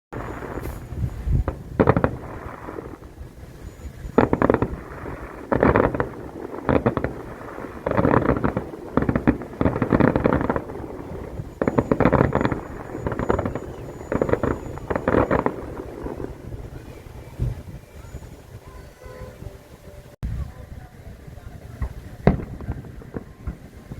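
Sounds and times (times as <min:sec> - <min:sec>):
fireworks popping and crackling: 0:00.1 - 0:19.3, 0:20.2 - 0:23.9.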